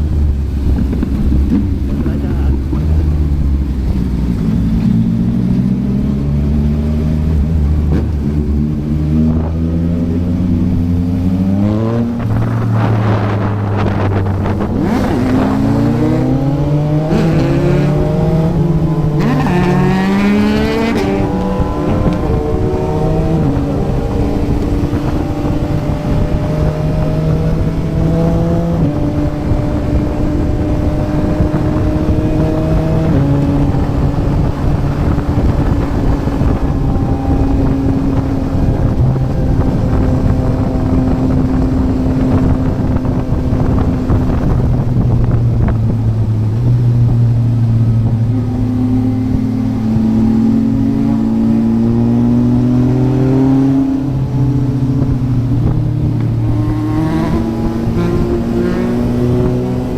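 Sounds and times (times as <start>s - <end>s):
motorcycle engine accelerating: 0.0s - 59.9s
wind rushing over microphone: 0.0s - 59.9s.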